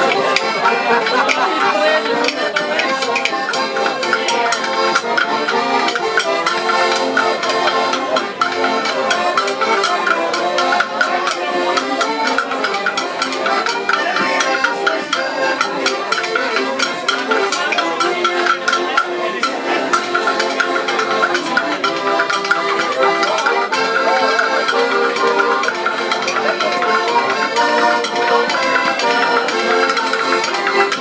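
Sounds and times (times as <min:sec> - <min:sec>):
accordions playing folk music: 0:00.0 - 0:31.0.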